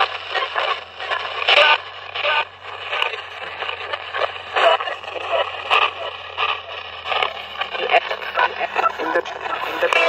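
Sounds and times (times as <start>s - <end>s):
low hum: 0.0s - 10.0s
radio static bursts: 0.0s - 10.0s.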